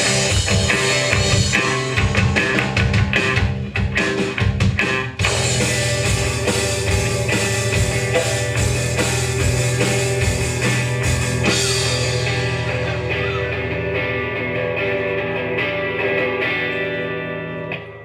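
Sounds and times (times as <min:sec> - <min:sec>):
drum kit: 0:00.0 - 0:17.1
bass guitar: 0:00.0 - 0:18.0
distorted electric guitars: 0:00.0 - 0:18.0.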